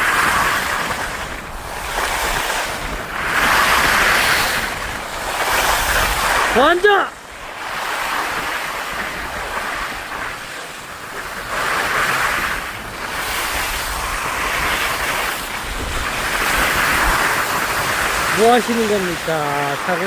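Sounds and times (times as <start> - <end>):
skis scraping over snow: 0.0 - 20.0
wind rumbling on microphone: 0.0 - 20.0.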